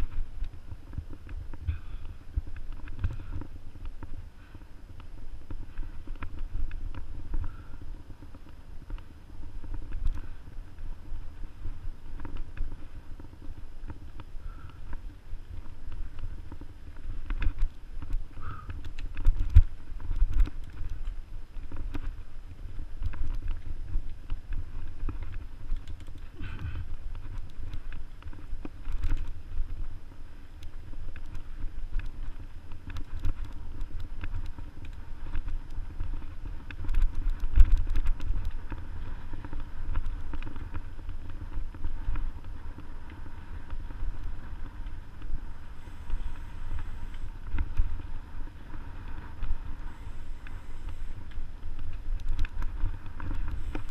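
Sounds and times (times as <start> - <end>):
bike rattling over rough trail: 0.0 - 53.9
wind buffeting microphone: 0.0 - 53.9.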